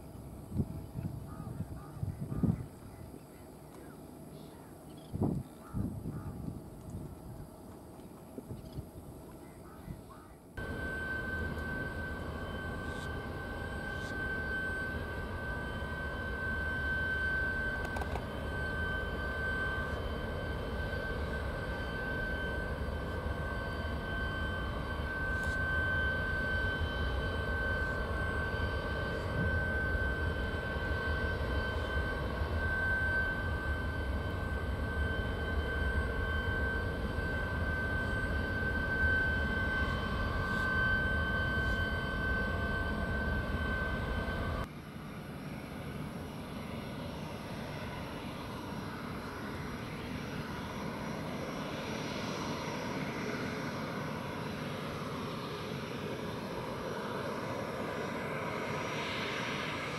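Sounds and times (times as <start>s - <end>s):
jet engines high whine: 0.0s - 59.9s.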